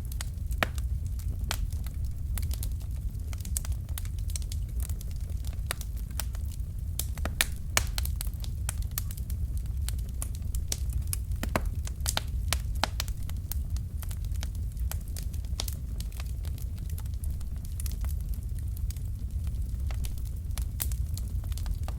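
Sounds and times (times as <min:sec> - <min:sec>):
logs crackling and popping: 0:00.0 - 0:21.9
low rumble of flames: 0:00.0 - 0:21.9.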